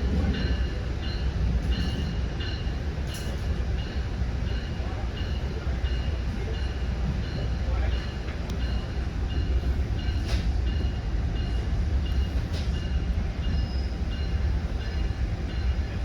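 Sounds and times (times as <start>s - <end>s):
train rumble from inside coach: 0.0s - 16.0s.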